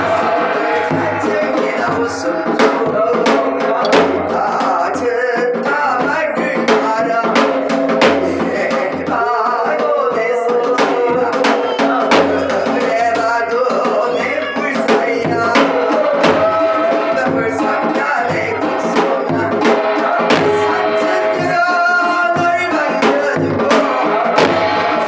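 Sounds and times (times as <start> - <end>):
drum strokes: 0.0 - 25.0
person singing with vibrato: 0.0 - 25.0.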